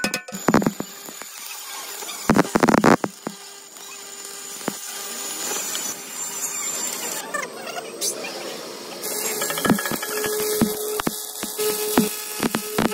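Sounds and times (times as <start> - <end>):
welding arc crackling and hissing: 0.3 - 12.9.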